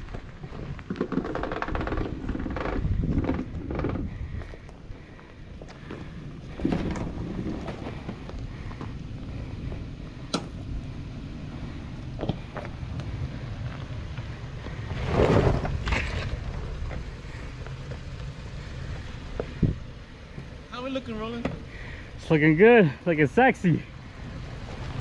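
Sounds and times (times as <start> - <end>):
engine running low and slow: 0.0 - 25.0
tyres crunching gravel: 0.0 - 25.0.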